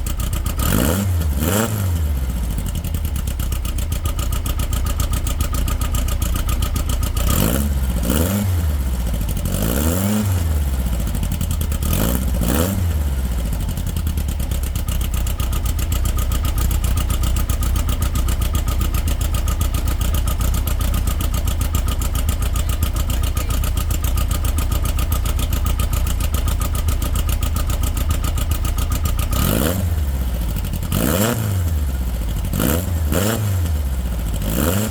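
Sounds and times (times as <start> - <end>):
car engine revving and idling: 0.0 - 34.9.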